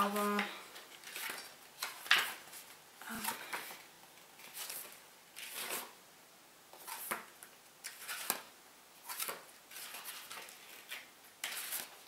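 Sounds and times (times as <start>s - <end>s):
paper pages rustling: 0.0s - 6.0s, 6.8s - 12.0s.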